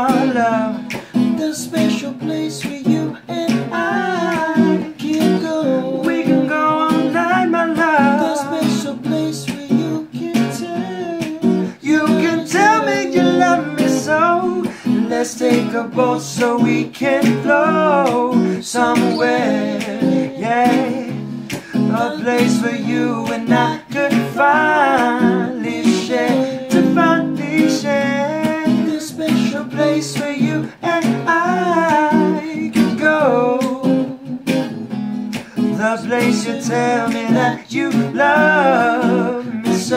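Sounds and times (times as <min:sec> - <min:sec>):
acoustic guitar strumming: 0:00.0 - 0:39.9
person singing: 0:00.0 - 0:39.9.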